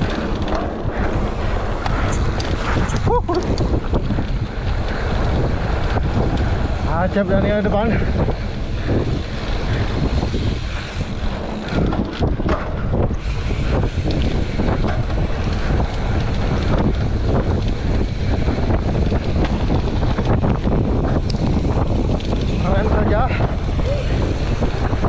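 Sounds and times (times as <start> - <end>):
bike knocks and rattles: 0.0 - 25.0
tyres rumbling on dirt: 0.0 - 25.0
wind buffeting microphone: 0.0 - 25.0.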